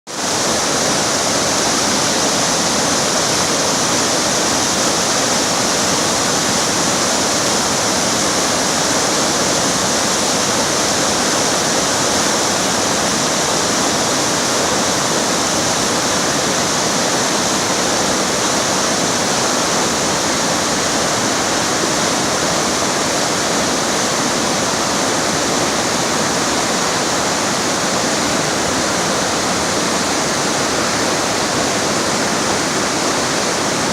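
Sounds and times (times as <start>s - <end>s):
river water rushing over rocks: 0.1s - 33.9s.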